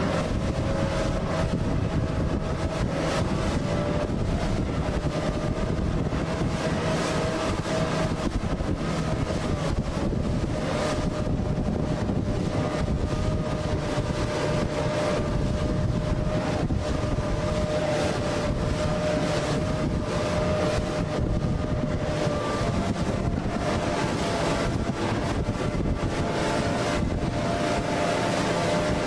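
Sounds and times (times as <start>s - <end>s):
rushing water: 0.0s - 29.0s
steady whine: 0.0s - 29.0s
wind buffeting microphone: 0.0s - 29.0s.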